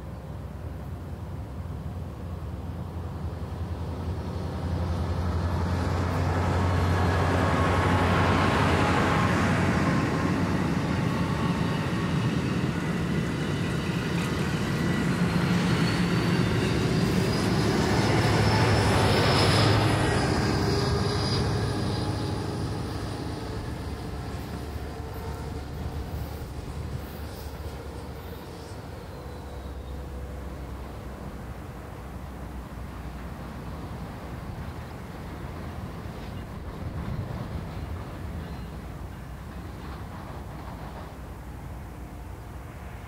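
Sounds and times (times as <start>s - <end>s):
passenger train rumble: 0.0s - 43.0s.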